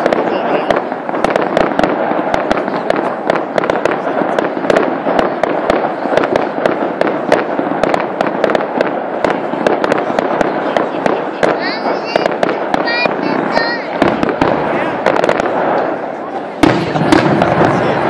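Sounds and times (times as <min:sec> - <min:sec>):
fireworks crackling and banging: 0:00.0 - 0:18.0.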